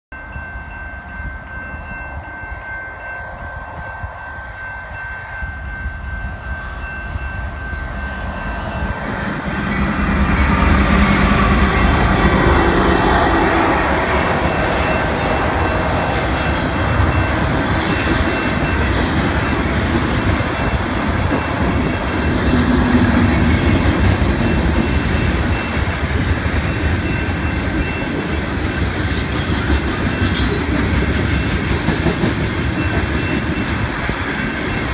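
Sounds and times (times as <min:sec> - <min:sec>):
level crossing warning bell: 0:00.1 - 0:28.6
freight train rumbling past: 0:00.2 - 0:34.9.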